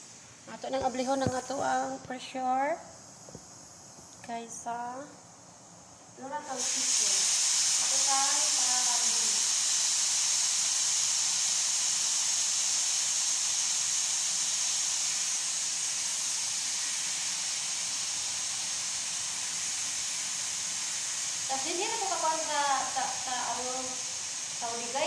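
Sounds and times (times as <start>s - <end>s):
pressure cooker steam hissing: 0.0s - 4.8s, 6.2s - 25.0s.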